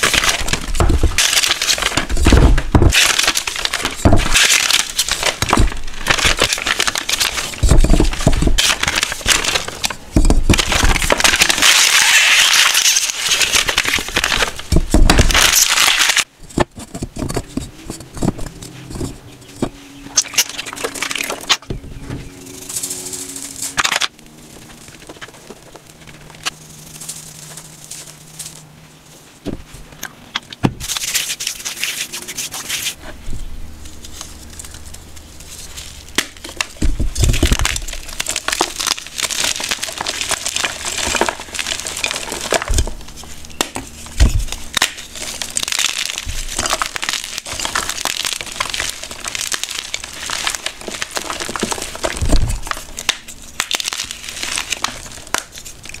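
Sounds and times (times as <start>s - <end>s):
chalk crunching and crumbling: 0.0s - 21.6s, 30.8s - 33.2s, 33.8s - 56.0s.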